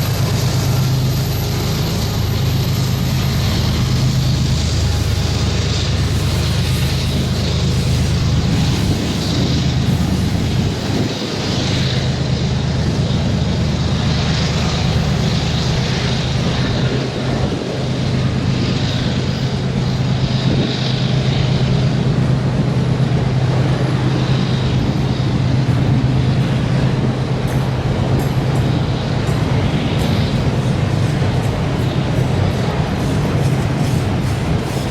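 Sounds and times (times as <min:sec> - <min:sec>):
locomotive engine drone: 0:00.0 - 0:34.9
rushing noise: 0:00.0 - 0:34.9.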